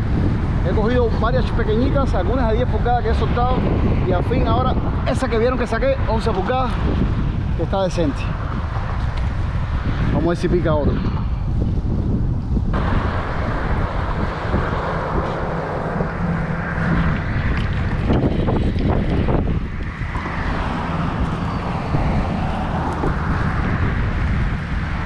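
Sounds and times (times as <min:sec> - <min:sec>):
highway traffic hum: 0:00.0 - 0:25.0
wind buffeting microphone: 0:00.0 - 0:25.0.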